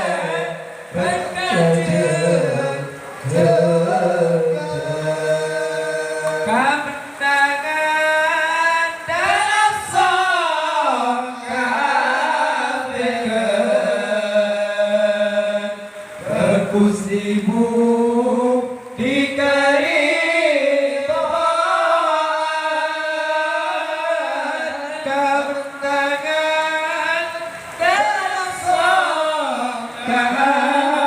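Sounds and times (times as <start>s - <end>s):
man chanting a devotional song: 0.0s - 31.0s.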